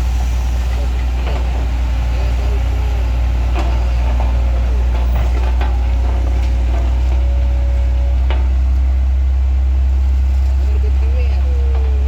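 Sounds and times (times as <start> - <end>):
heavy vehicle engine droning: 0.0 - 12.0.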